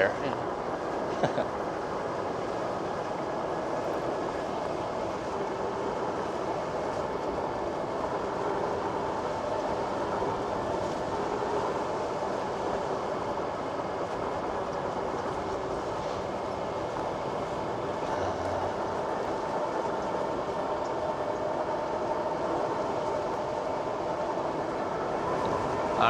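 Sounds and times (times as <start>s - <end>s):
faint steady whine: 0.0s - 26.0s.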